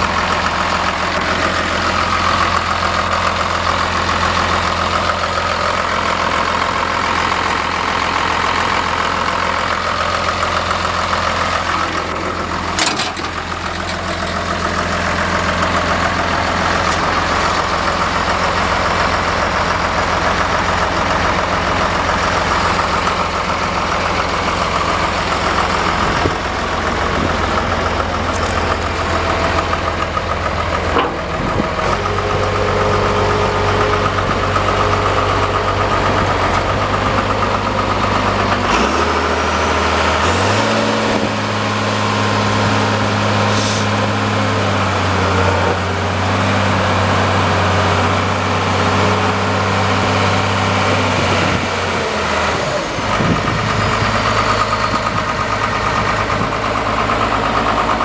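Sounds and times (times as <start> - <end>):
diesel engine idling and revving: 0.0 - 58.0.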